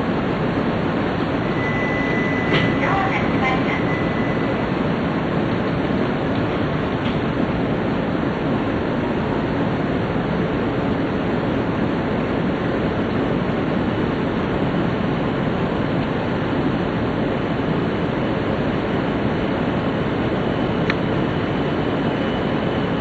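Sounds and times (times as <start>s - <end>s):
train running at speed: 0.0s - 23.0s.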